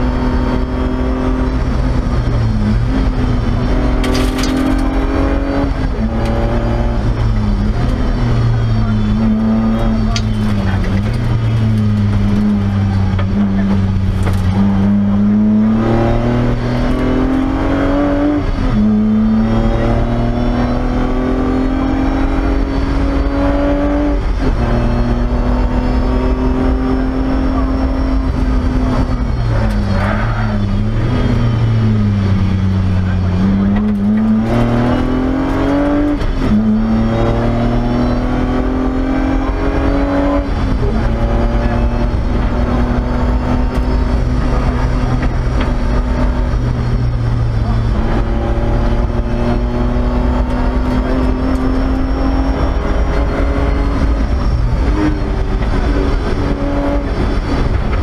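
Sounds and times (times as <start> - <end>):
car engine accelerating through gears: 0.0 - 58.0.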